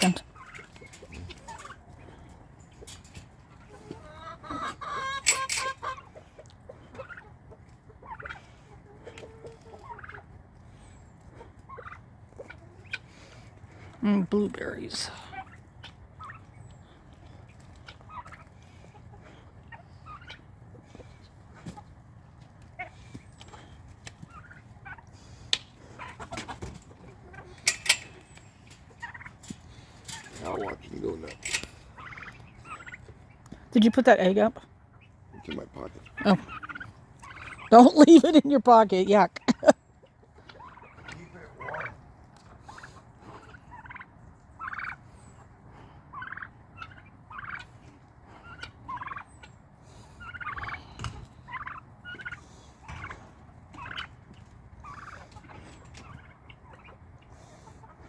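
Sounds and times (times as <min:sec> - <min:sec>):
poultry flock calling: 0:00.0 - 0:58.0
turkeys gobbling: 0:00.0 - 0:58.0.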